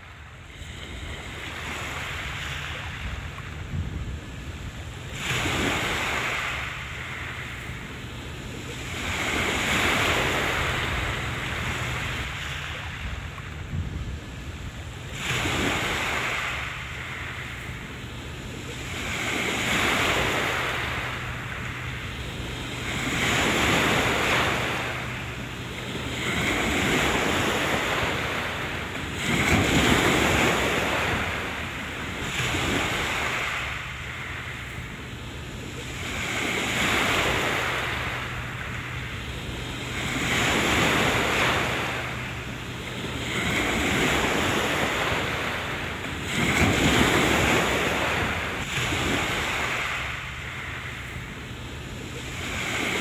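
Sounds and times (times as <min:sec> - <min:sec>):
small waves washing on shore: 0:00.0 - 0:53.0
wind buffeting microphone: 0:00.0 - 0:53.0.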